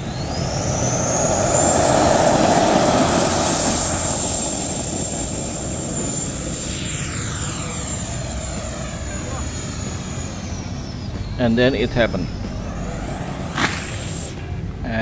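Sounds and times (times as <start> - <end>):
electric ducted fan whining: 0.0 - 15.0
rushing air: 0.0 - 15.0.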